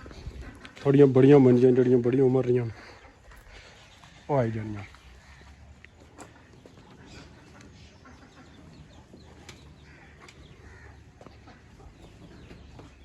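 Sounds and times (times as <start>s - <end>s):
hens clucking faintly: 0.0s - 13.0s.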